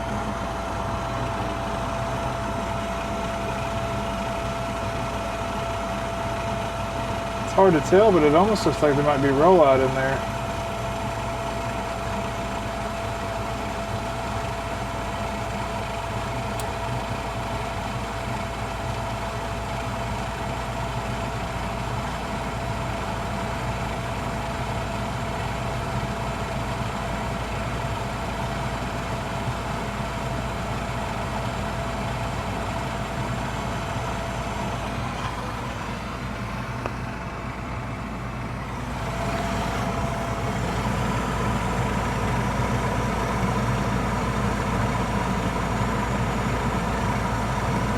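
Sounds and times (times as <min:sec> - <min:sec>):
gas furnace motor humming: 0:00.0 - 0:47.9.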